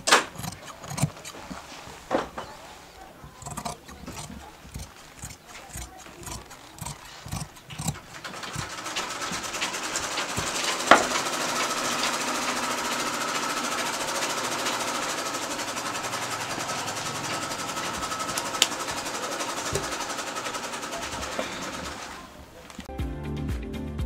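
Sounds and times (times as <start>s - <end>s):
sewing machine running: 0.0s - 1.8s, 3.2s - 22.4s.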